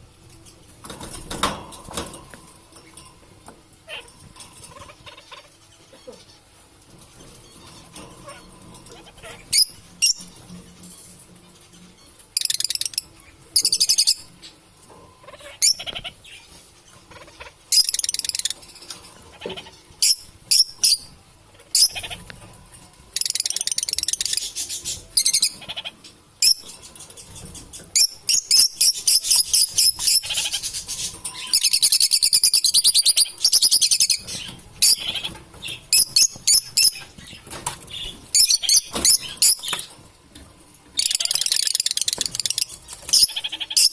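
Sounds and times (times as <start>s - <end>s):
lovebirds chattering: 3.8s - 43.9s.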